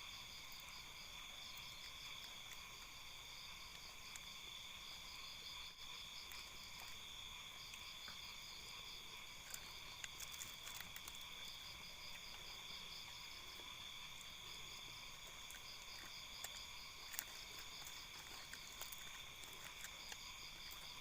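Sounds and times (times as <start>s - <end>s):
crickets and insects trilling: 0.0s - 21.0s.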